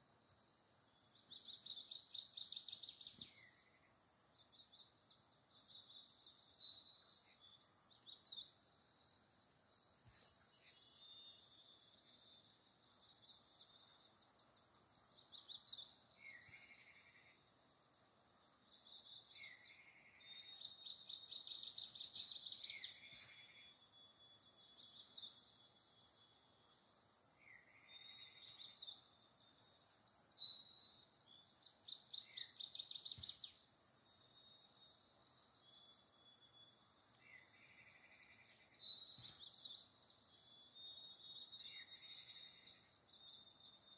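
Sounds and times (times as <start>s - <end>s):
faint birdsong with chirps and trills: 0.0s - 43.9s.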